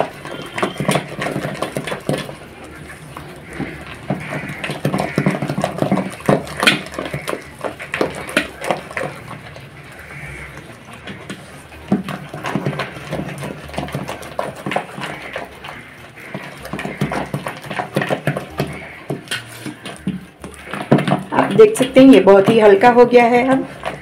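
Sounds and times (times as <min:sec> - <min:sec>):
batter slapping in a steel bowl: 0:00.0 - 0:24.0.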